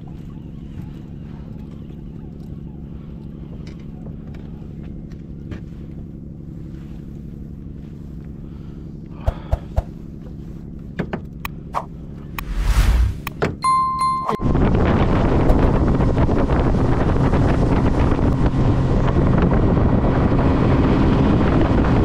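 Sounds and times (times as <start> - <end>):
boat engine running: 0.0 - 12.6, 13.6 - 22.0.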